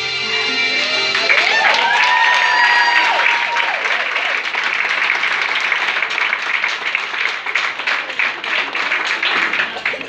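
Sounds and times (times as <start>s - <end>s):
audience applauding: 0.8s - 10.0s.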